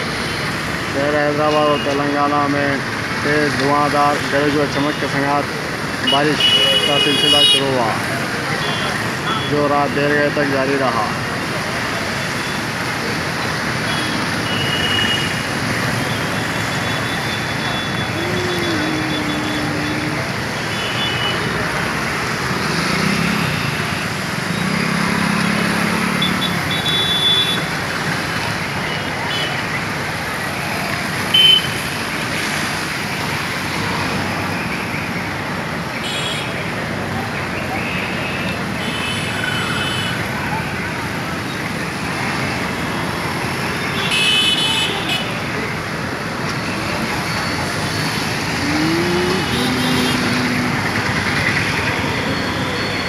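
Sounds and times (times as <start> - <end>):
traffic on wet street: 0.0 - 53.0
vehicle engines passing: 0.0 - 53.0.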